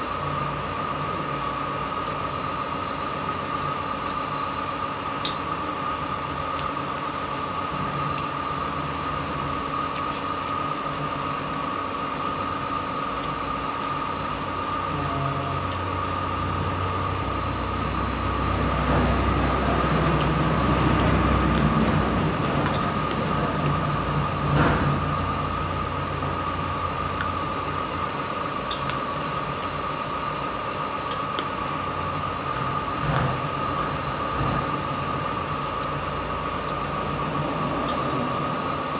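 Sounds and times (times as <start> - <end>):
mechanical hum with high whine: 0.0 - 38.9.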